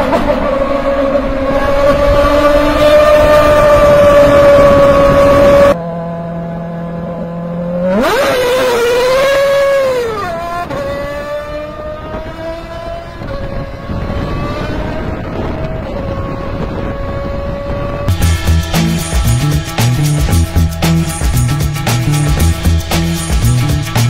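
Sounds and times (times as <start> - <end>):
racing car engine at high revs: 0.0 - 24.0.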